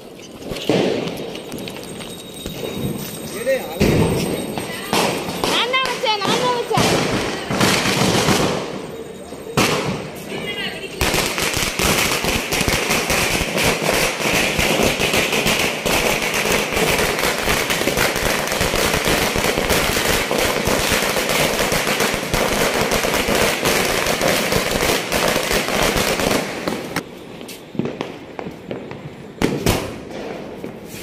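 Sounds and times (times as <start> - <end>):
firecrackers going off: 0.0 - 31.0.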